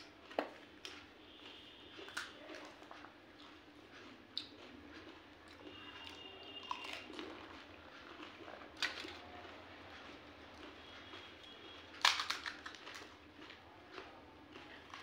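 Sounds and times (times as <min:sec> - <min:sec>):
wet squishing and chewing: 0:00.0 - 0:15.0.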